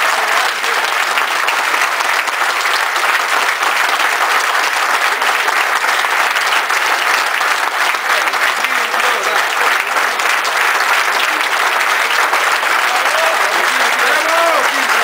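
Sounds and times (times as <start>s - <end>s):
audience applause: 0.0s - 15.0s.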